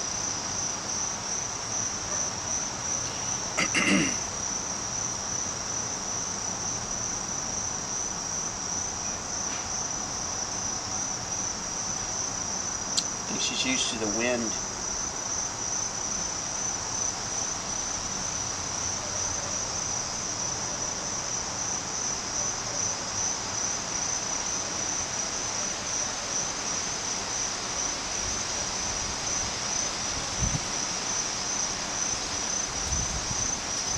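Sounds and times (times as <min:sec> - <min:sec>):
faint outdoor background noise: 0:00.0 - 0:33.9
insects buzzing shrilly: 0:00.0 - 0:33.9.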